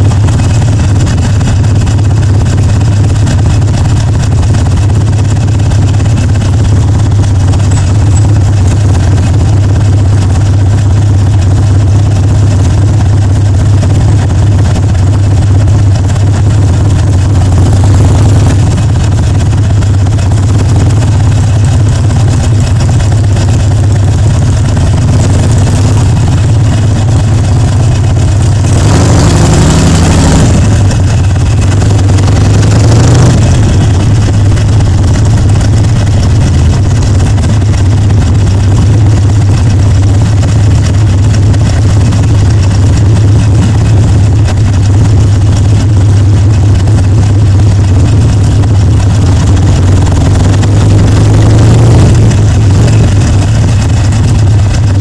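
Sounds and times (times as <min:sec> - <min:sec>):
motorcycle engine running loud: 0:00.0 - 0:55.0.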